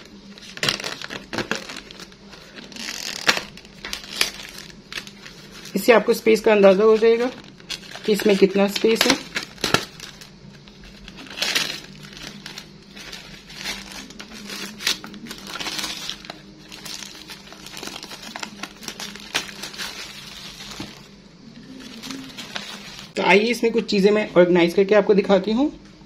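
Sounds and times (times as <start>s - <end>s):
plastic packaging crinkling: 0.0s - 23.4s.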